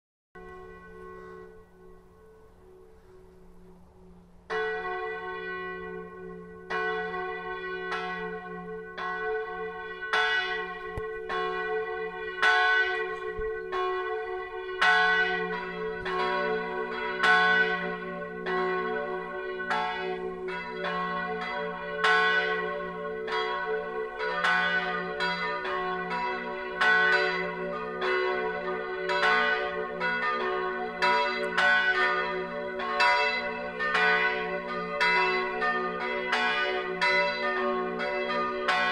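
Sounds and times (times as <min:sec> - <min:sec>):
church bells ringing: 0:00.4 - 0:38.9.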